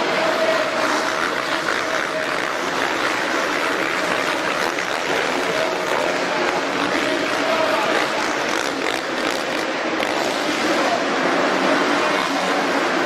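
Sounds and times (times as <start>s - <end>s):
crowd cheering: 0.0s - 13.0s
dirt bike engines: 0.0s - 13.0s.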